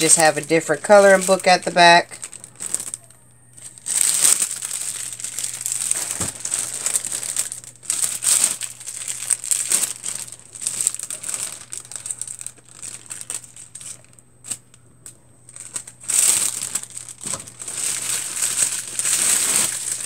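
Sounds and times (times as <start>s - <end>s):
cellophane wrap crinkling: 0.0s - 20.0s.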